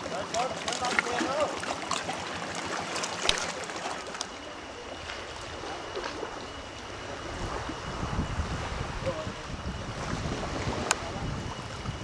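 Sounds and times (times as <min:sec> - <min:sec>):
sea water splashing and lapping: 0:00.0 - 0:12.0.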